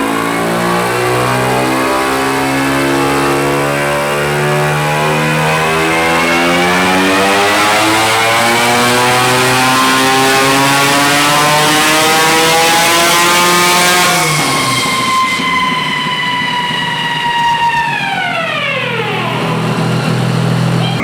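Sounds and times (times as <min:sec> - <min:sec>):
lawn mower engine revving: 0:00.0 - 0:21.0.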